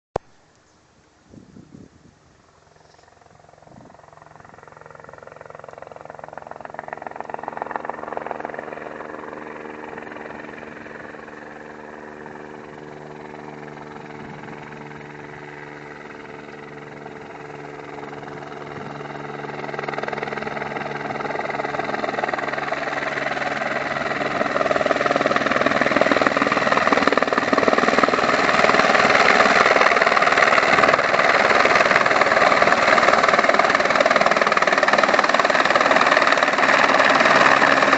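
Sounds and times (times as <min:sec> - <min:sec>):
helicopter rotor pulsing: 0:02.4 - 0:37.9.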